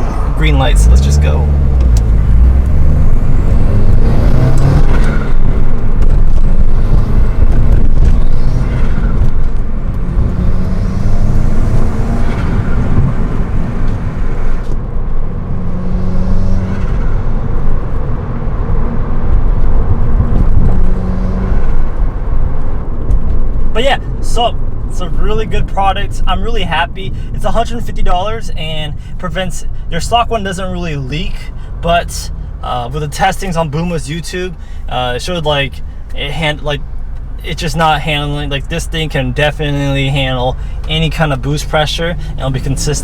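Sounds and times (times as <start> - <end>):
car engine accelerating hard: 0.0 - 28.9, 29.9 - 43.0.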